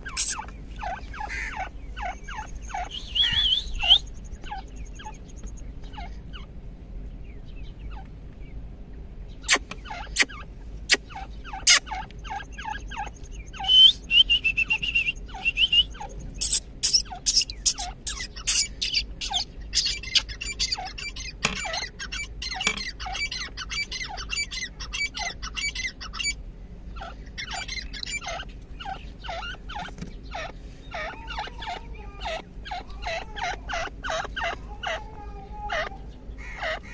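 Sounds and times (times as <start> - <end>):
francolins calling: 0.0 - 6.5, 9.3 - 36.9.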